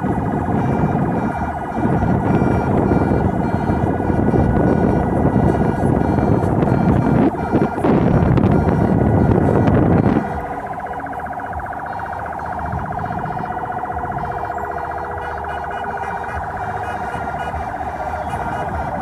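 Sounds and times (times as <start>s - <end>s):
warbling emergency siren: 0.0s - 19.0s.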